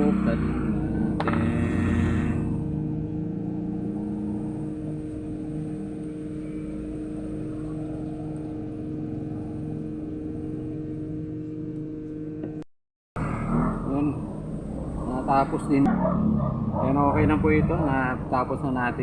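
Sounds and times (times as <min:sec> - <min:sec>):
low rumble: 0:00.0 - 0:11.7, 0:13.2 - 0:19.0
machine hum with low tones: 0:00.0 - 0:19.0.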